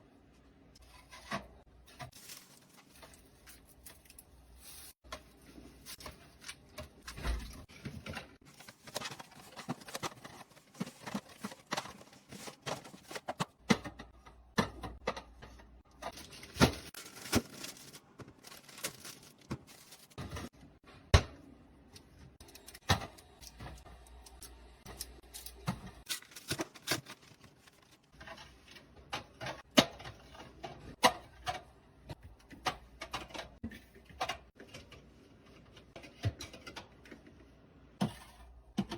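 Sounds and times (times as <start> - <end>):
groceries clicking and knocking: 5.0 - 38.9.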